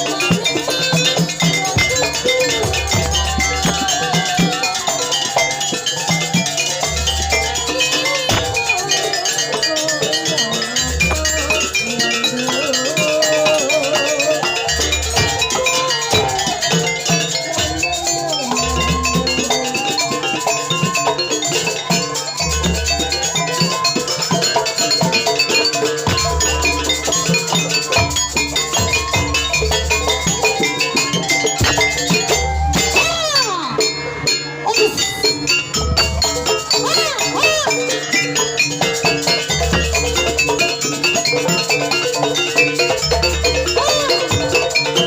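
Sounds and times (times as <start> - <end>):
metallophones and drums ensemble: 0.0 - 45.0.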